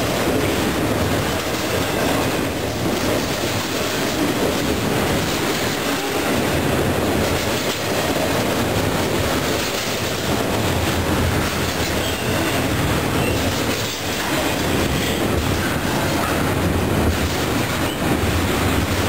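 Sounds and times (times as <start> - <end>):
train wheels running on rails: 0.0 - 19.0.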